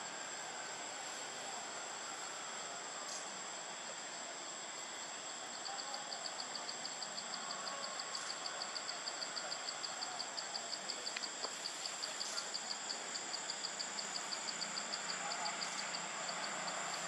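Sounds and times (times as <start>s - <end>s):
insects whining: 0.0s - 17.0s.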